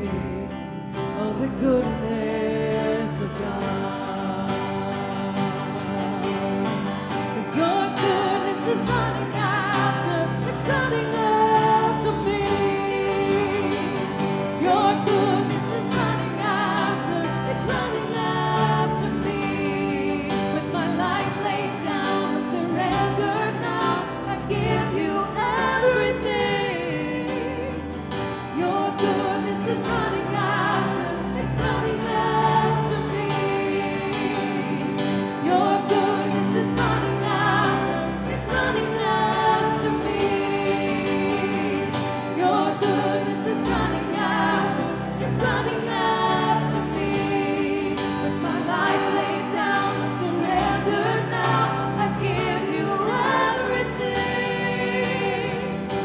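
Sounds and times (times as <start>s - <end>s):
acoustic guitar: 0.0s - 56.0s
person singing lead vocal: 0.0s - 56.0s
piano: 0.0s - 56.0s.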